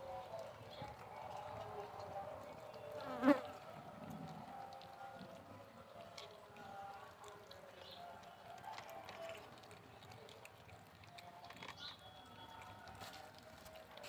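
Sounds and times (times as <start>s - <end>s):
kittens chewing and licking: 0.0s - 14.0s.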